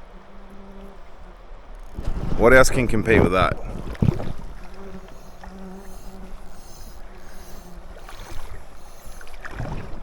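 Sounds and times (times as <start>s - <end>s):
low steady hum: 0.0s - 10.0s
running river water: 0.0s - 10.0s
wind buffeting microphone: 1.7s - 10.0s.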